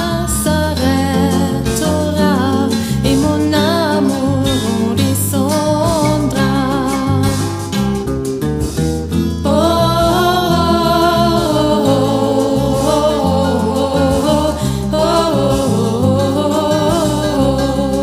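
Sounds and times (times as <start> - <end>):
woman singing: 0.0 - 7.8, 9.4 - 18.0
instrumental backing with bass line: 0.0 - 18.0.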